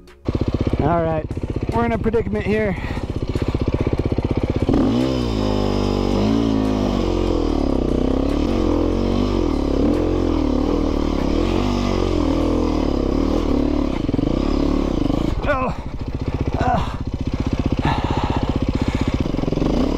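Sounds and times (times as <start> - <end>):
dirt bike engine revving: 0.2 - 19.9.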